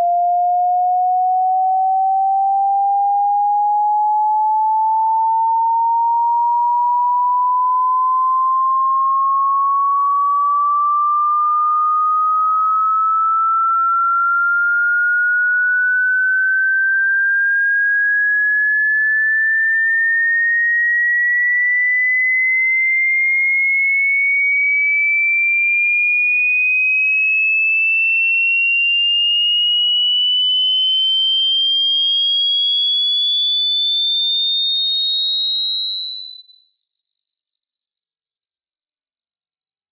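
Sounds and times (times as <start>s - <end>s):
rising sine tone sweep: 0.0s - 23.1s, 28.8s - 39.9s.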